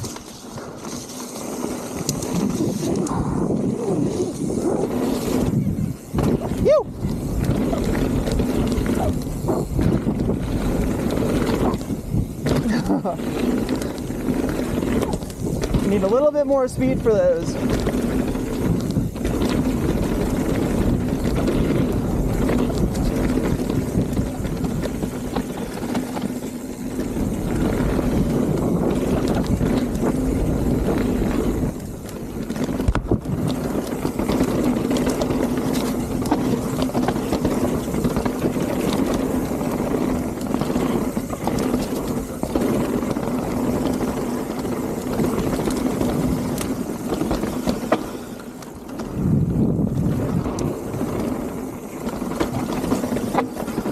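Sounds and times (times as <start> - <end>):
bike knocks and rattles: 0.0 - 53.9
bike tyres on dirt: 0.0 - 53.9
wind rushing on microphone: 1.6 - 53.9.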